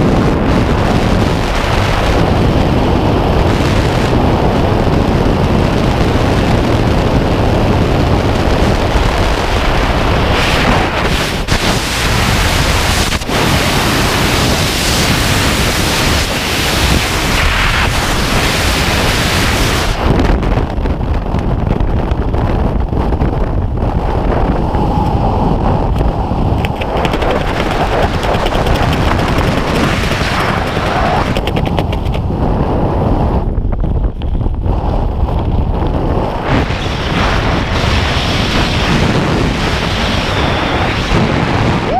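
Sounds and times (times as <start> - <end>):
wind roaring over microphone: 0.0 - 41.9.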